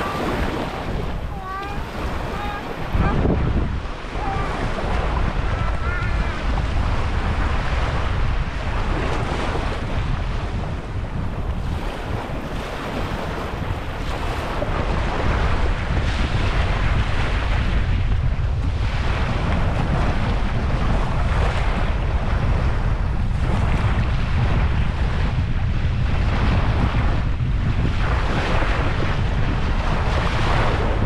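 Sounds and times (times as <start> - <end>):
waves breaking on shore: 0.0 - 31.0
wind buffeting microphone: 0.0 - 31.0.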